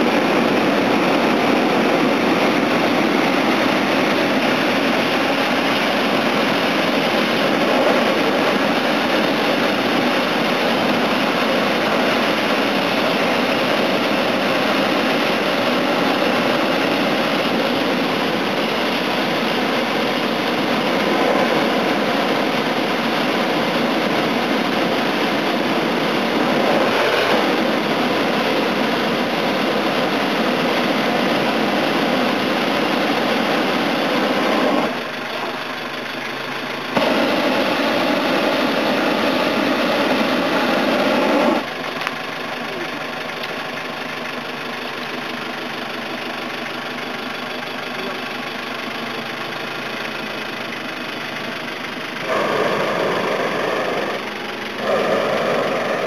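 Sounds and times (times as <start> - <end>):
propane burner firing: 0.0 - 56.0.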